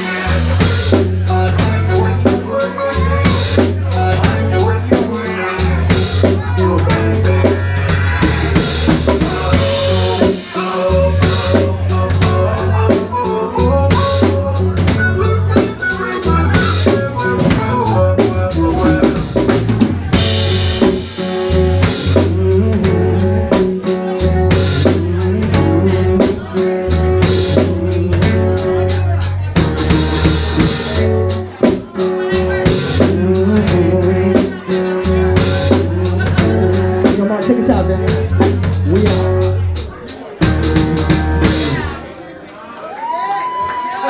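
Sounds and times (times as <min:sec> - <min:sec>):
drum kit beat: 0:00.0 - 0:42.0
electric guitar: 0:00.0 - 0:42.0
low bass notes: 0:00.0 - 0:42.1.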